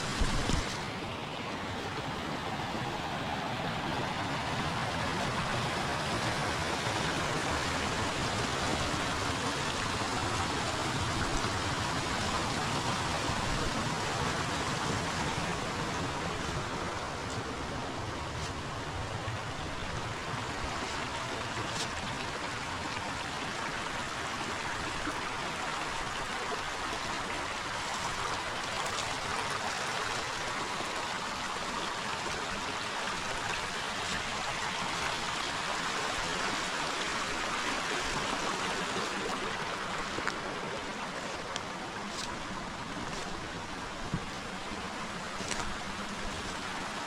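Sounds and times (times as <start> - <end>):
stream running: 0.0 - 47.0.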